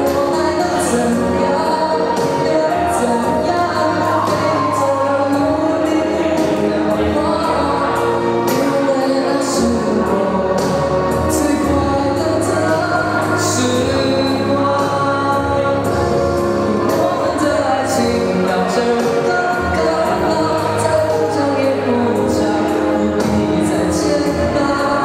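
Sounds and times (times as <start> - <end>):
accompanying music: 0.0 - 25.0
man singing into microphone: 0.0 - 25.0.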